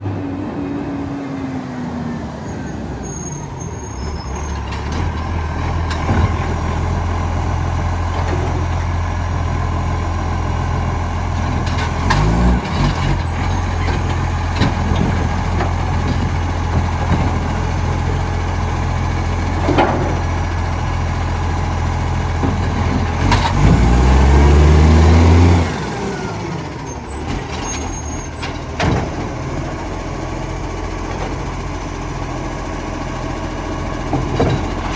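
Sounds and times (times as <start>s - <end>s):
diesel truck engine revving: 0.0s - 34.9s.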